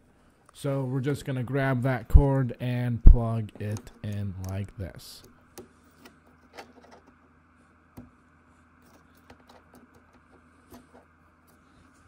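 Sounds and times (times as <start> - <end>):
quiet room hum: 0.0 - 12.0.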